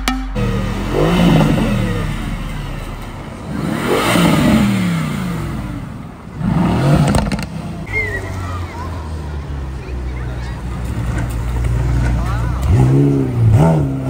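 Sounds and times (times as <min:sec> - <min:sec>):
sharp exhaust cracks: 0:00.0 - 0:08.6, 0:10.4 - 0:14.0
car engine revving: 0:00.0 - 0:14.0.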